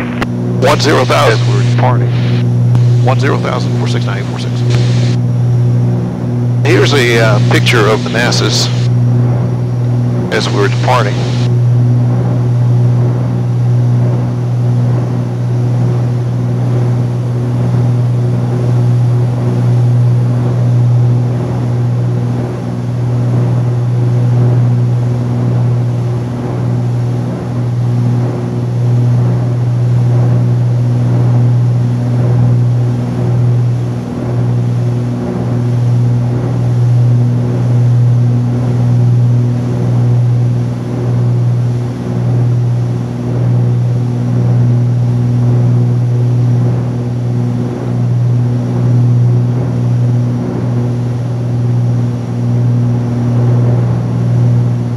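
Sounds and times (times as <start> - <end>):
aircraft engines droning in cabin: 0.0 - 54.9.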